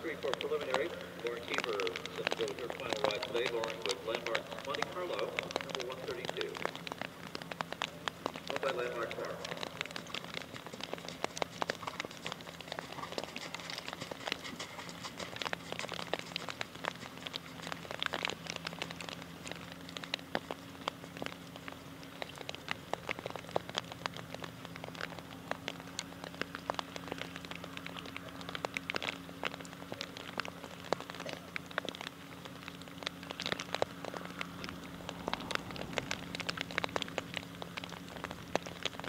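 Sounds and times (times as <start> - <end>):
faint low hum: 0.0 - 39.0
rain pattering: 0.0 - 39.0.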